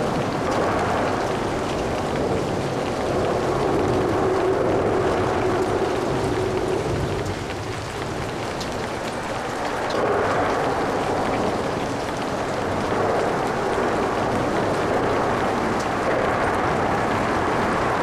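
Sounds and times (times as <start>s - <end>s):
light rain hiss: 0.0s - 18.0s
raindrop ticks: 0.0s - 18.0s
traffic on wet road: 0.0s - 18.0s.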